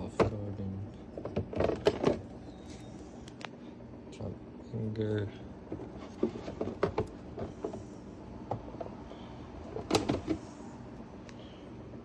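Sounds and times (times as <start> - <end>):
refrigerator hum: 0.0 - 12.0.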